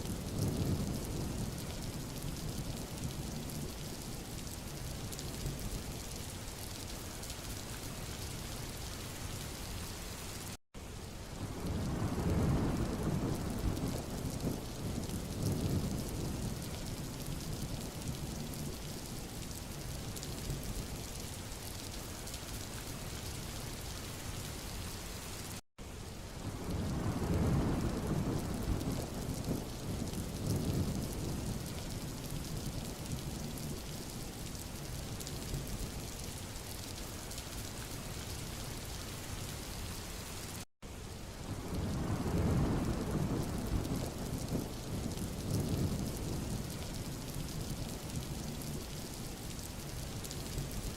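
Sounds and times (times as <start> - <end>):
rain falling on road: 0.0 - 50.9.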